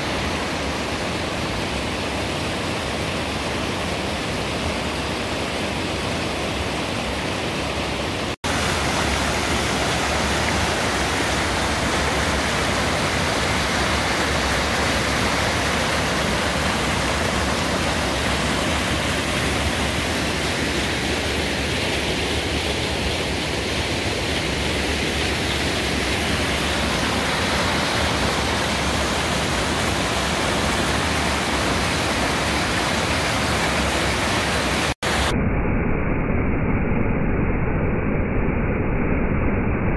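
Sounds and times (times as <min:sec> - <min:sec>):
stream water rushing over rocks: 0:00.0 - 0:35.0.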